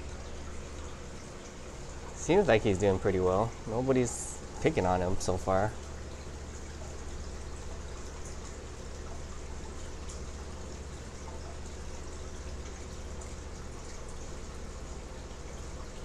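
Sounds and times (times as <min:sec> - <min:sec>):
aquarium water splashing and trickling: 0:00.0 - 0:16.0.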